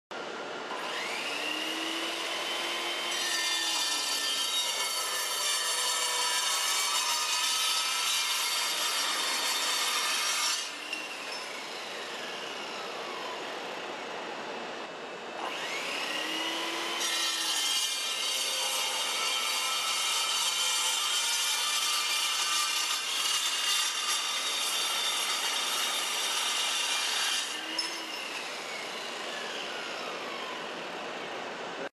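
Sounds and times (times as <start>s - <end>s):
saw blade cutting steel: 0.7s - 12.9s, 15.4s - 30.7s.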